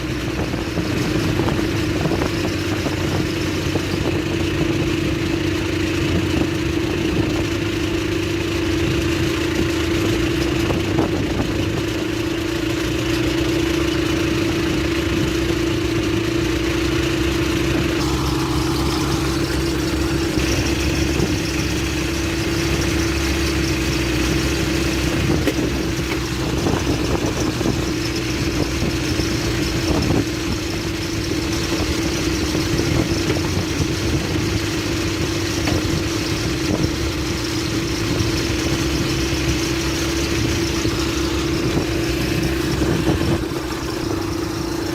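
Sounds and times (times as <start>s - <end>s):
bulldozer diesel engine droning: 0.0s - 44.9s.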